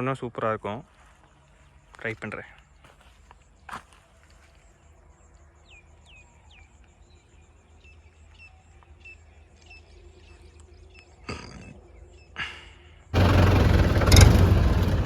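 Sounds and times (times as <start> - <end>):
birds chirping: 1.2 - 15.0.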